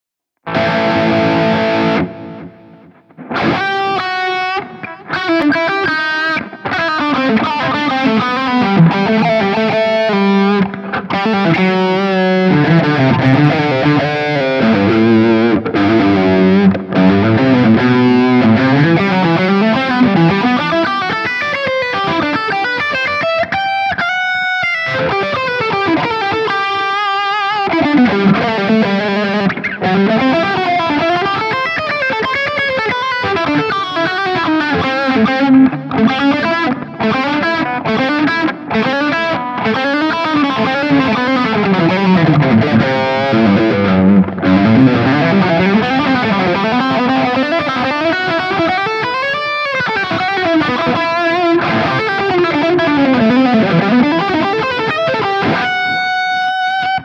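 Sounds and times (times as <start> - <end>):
fast electric guitar lead: 0.4 - 57.0.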